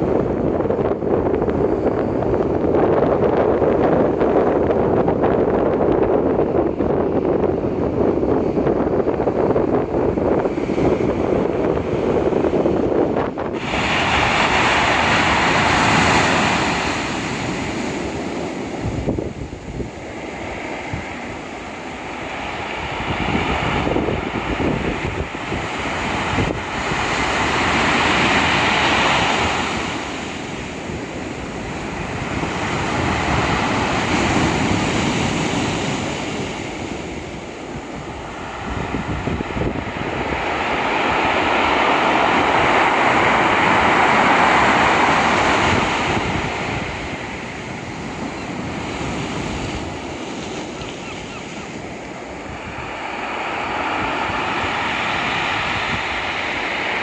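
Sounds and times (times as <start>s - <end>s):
wind buffeting microphone: 0.0s - 57.0s
waves breaking: 10.4s - 57.0s.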